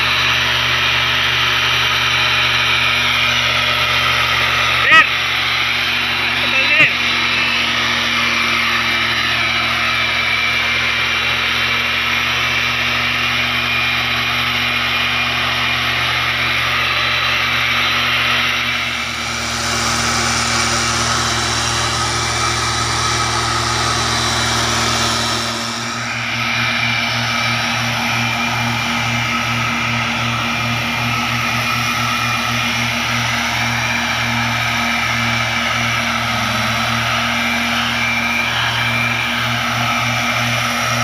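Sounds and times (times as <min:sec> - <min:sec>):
two-stroke engine running: 0:00.0 - 0:41.0.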